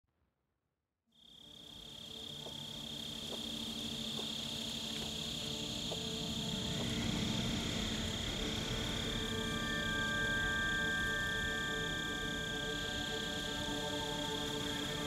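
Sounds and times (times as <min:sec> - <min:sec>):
high insect trill: 0:01.2 - 0:15.0.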